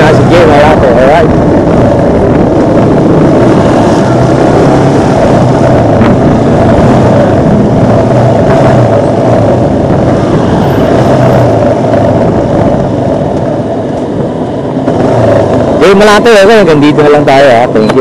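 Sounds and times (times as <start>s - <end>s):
road and wind noise: 0.0s - 18.0s
motorcycle engine running: 1.2s - 15.8s.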